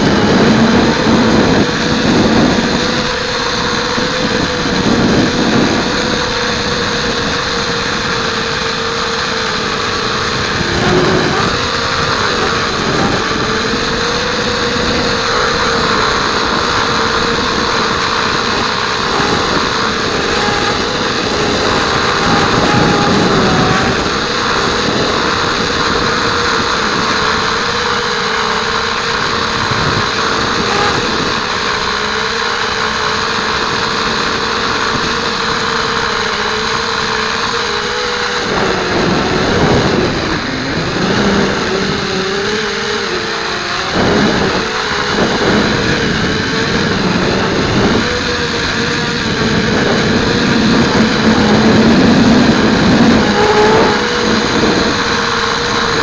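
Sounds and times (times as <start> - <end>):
drone motors whining: 0.0 - 56.0
wind noise: 0.0 - 56.0.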